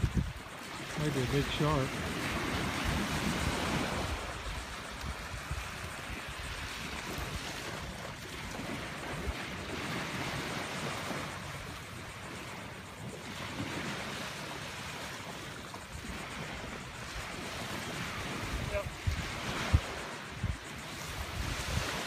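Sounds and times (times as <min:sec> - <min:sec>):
small waves washing onto sand: 0:00.0 - 0:22.0
wind on microphone: 0:00.0 - 0:22.0.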